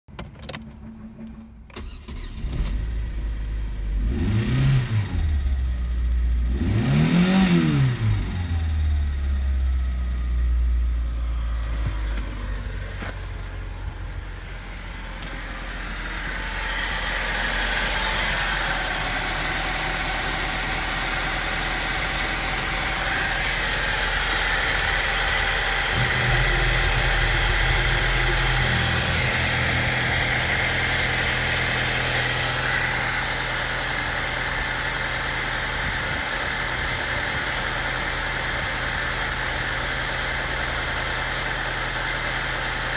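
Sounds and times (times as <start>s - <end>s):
engine mechanical clatter and hiss: 0.1s - 5.6s, 11.2s - 42.9s
car engine starting and revving: 0.4s - 42.9s.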